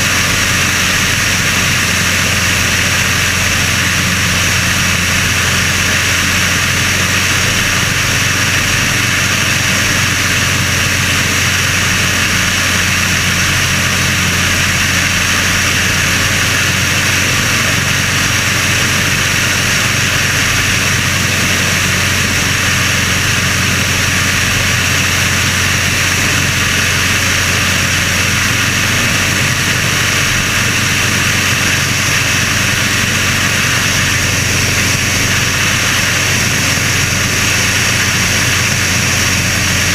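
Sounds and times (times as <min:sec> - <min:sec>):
small airplane engine and propeller: 0:00.0 - 0:39.9.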